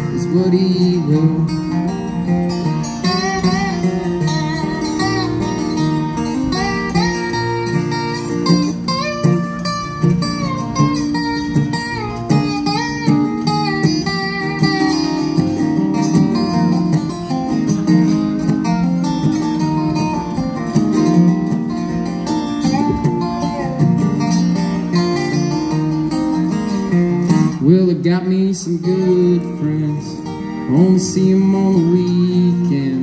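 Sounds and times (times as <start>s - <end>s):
acoustic guitar strumming chords: 0.0s - 33.0s
slide guitar gliding notes: 0.0s - 33.0s.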